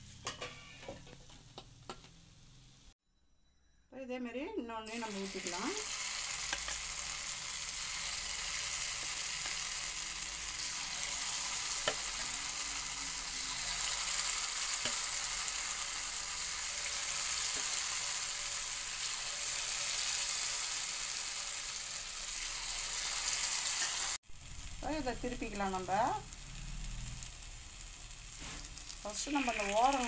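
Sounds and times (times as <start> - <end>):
batter sizzling in hot oil: 4.9 - 30.0.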